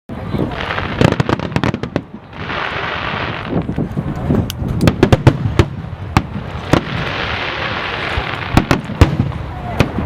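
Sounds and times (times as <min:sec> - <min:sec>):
fireworks bangs and crackles: 0:00.1 - 0:10.0.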